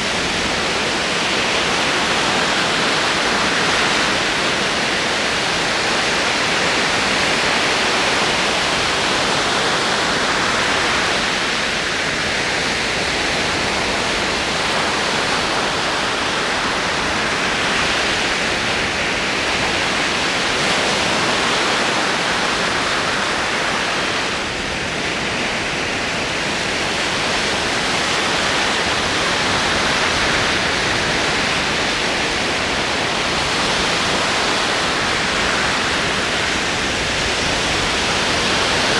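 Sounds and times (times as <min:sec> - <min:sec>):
ocean waves rolling in: 0:00.0 - 0:38.9.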